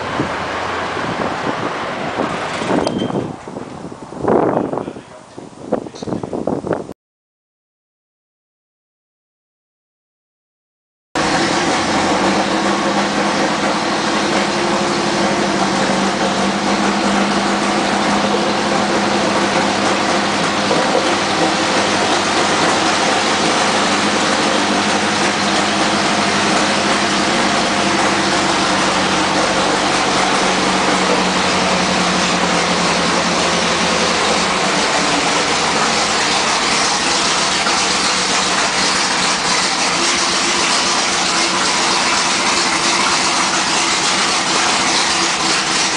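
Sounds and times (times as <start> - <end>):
tank engine running: 0.0 - 4.2, 11.2 - 45.9.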